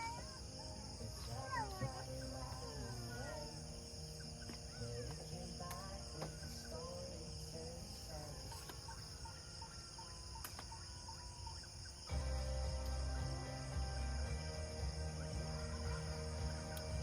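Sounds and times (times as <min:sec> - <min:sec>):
background music: 0:00.0 - 0:17.0
crickets and insects chirring: 0:00.0 - 0:17.0.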